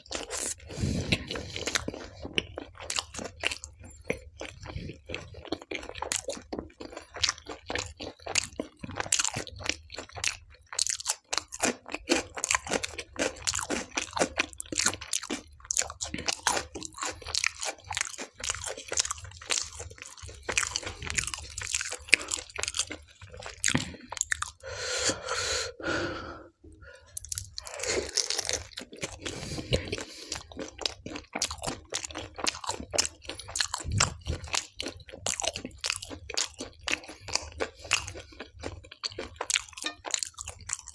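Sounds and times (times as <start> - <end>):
chewing crunchy food: 0.0 - 24.7, 26.7 - 40.9.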